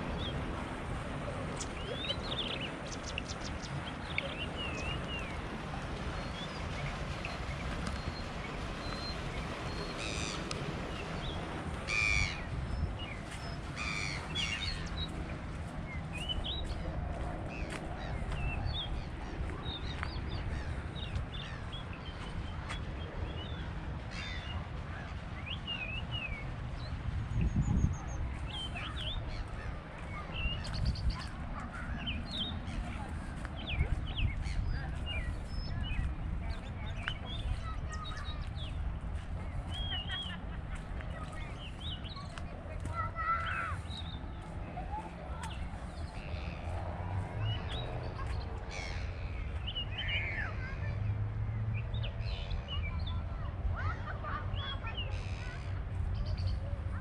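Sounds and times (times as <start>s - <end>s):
birds chirping: 0.0s - 57.0s
low outdoor rumble: 0.0s - 57.0s.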